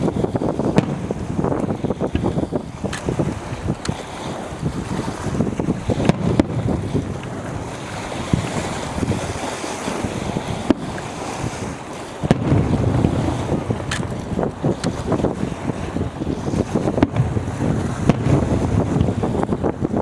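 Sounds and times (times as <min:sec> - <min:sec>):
fireworks bursting: 0:00.0 - 0:20.0
wind buffeting microphone: 0:00.0 - 0:20.0.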